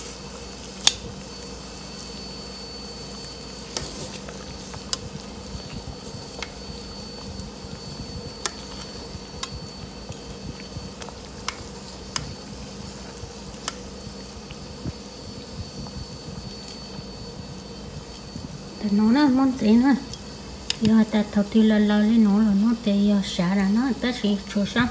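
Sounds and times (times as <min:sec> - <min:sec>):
broth boiling in a stockpot: 0:00.0 - 0:24.9.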